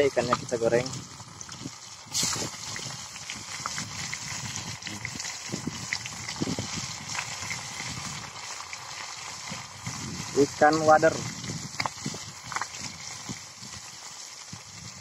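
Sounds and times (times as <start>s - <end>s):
fish sizzling in hot oil: 0.0s - 15.0s
oil popping and crackling: 0.0s - 15.0s.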